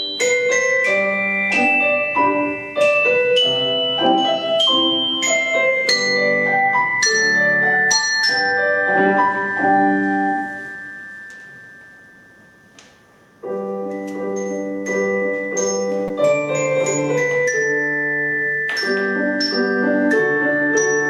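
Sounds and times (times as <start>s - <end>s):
mallet percussion melody: 0.0s - 21.0s
piano accompaniment: 0.0s - 21.0s.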